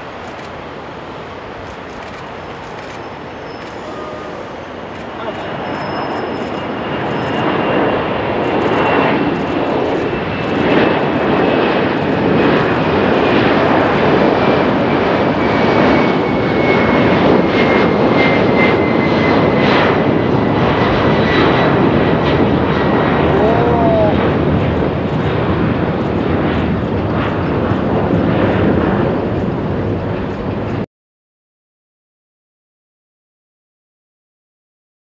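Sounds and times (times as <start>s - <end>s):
high engine whine: 0.0s - 30.8s
jet engines rumbling: 0.0s - 30.9s.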